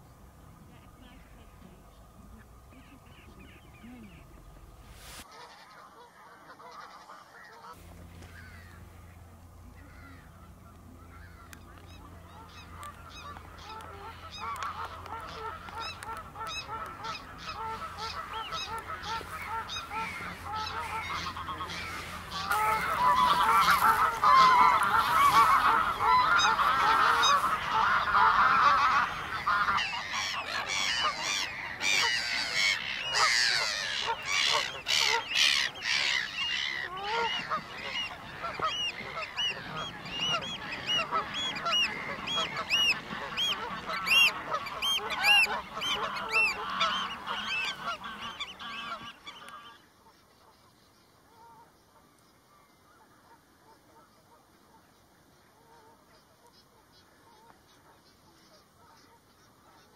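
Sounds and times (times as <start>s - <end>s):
birds honking: 0.0s - 50.7s
birds piping calls: 0.0s - 53.9s.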